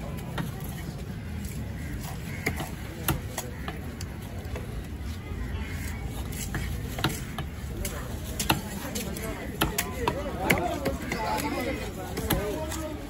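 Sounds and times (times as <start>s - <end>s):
market noise: 0.0s - 13.0s.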